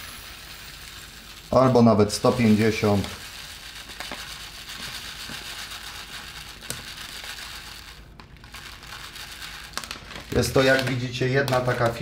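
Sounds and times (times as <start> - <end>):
dry rice pouring: 0.0 - 12.0.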